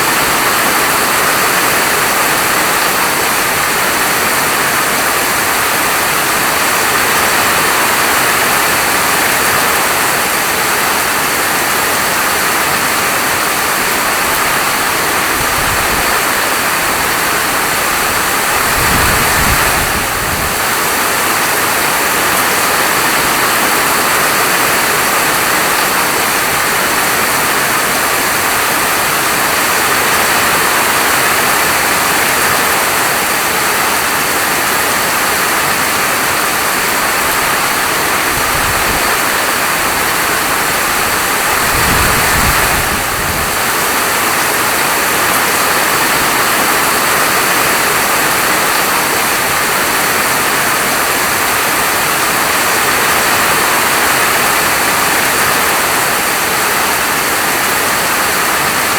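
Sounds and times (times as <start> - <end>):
steady rainfall: 0.0 - 58.9.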